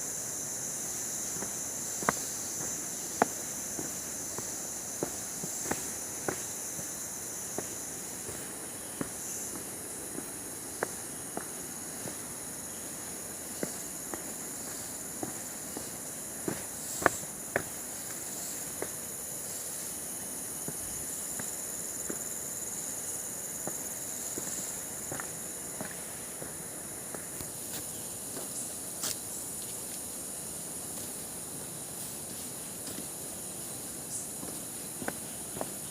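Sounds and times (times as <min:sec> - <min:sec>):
high-pitched insect chorus: 0:00.0 - 0:35.9
footsteps on forest path: 0:00.5 - 0:20.0, 0:20.6 - 0:22.4, 0:23.5 - 0:35.9.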